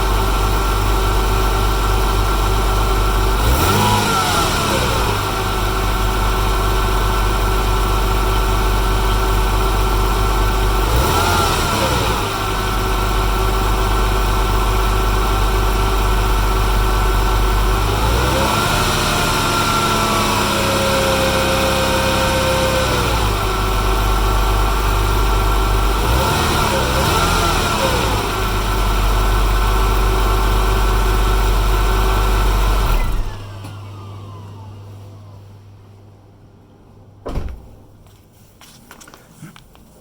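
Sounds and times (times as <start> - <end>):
car engine idling and revving: 0.0 - 35.2.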